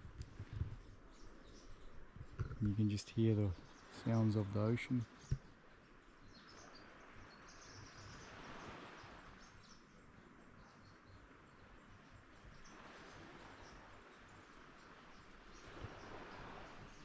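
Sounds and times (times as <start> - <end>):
distant ocean surf: 2.5 - 6.2, 6.8 - 17.0.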